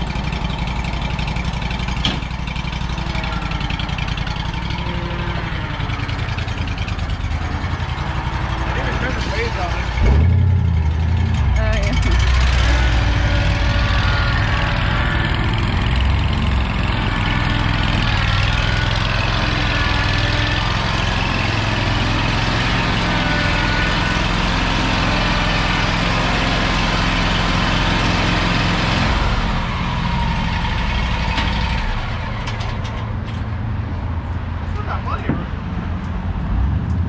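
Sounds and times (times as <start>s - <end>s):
mower engine running: 0.0s - 33.3s.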